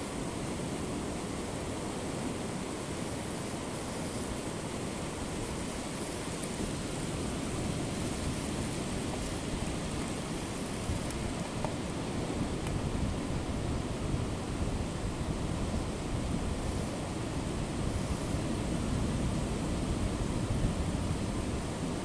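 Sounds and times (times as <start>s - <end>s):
waves breaking on beach: 0.0s - 22.0s.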